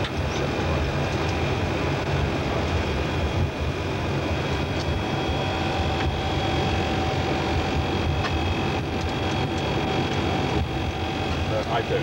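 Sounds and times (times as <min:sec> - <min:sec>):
aircraft in flight rumble: 0:00.0 - 0:12.0
thin steady whines: 0:00.0 - 0:12.0.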